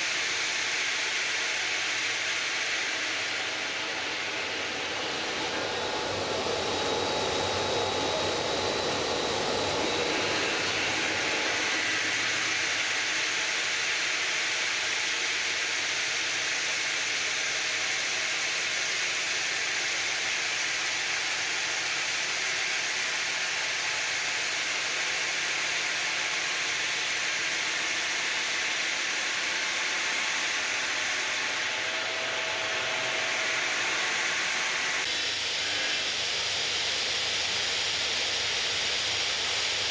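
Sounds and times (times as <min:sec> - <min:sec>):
stone cutting machine: 0:00.0 - 0:39.9.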